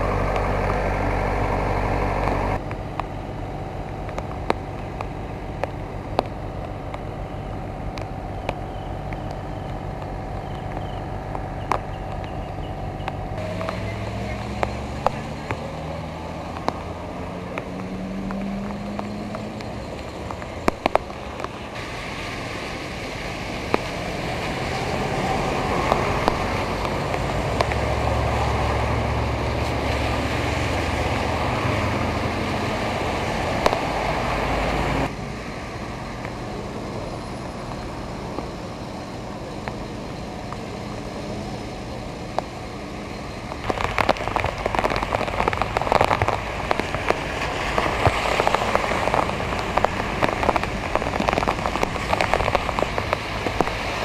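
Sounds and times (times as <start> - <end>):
close raindrop patter: 0.0 - 54.0
steady rain: 0.0 - 54.0
vehicle engines in traffic: 0.0 - 54.0.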